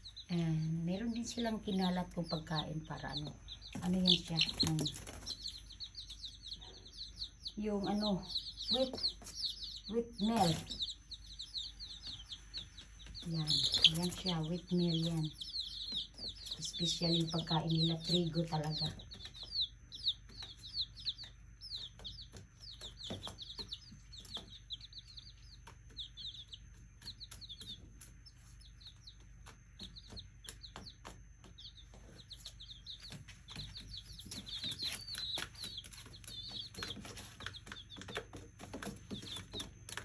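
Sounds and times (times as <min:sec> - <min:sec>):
baby chicks peeping: 0:00.0 - 0:40.0.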